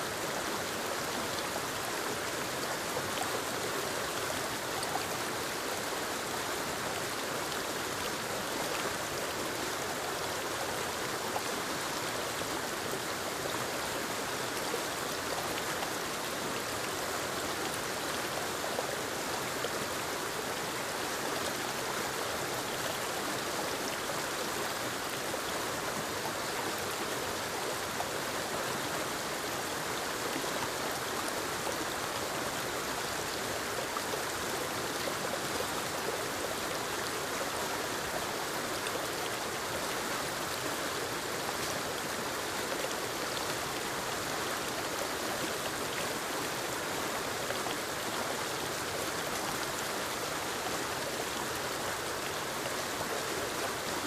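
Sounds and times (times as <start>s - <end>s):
waterfall cascading over rocks: 0.0s - 54.0s.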